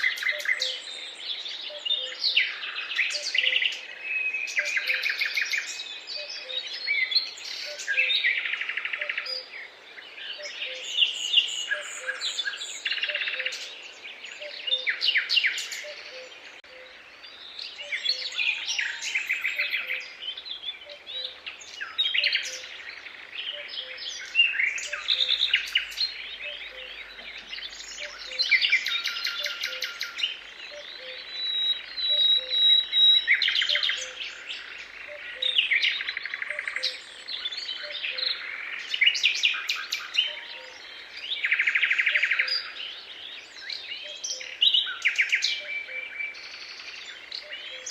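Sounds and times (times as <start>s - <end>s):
songbirds singing: 0.0s - 47.9s.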